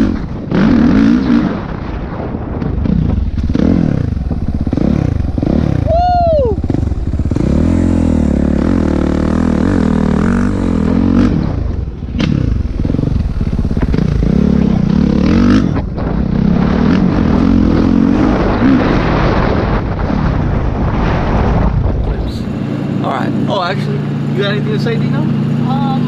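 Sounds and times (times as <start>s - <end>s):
dirt bike engine revving: 0.0s - 2.0s, 2.6s - 20.4s, 21.2s - 26.0s.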